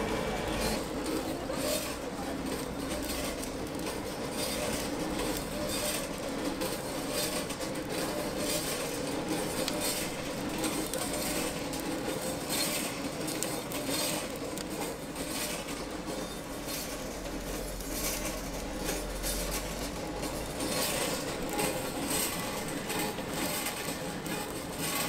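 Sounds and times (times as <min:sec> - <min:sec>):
chestnut roaster mechanical hum: 0:00.0 - 0:25.0.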